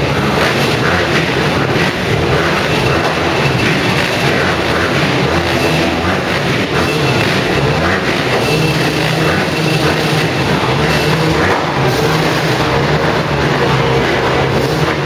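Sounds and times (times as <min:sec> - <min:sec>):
motocross engines running: 0:00.0 - 0:15.0.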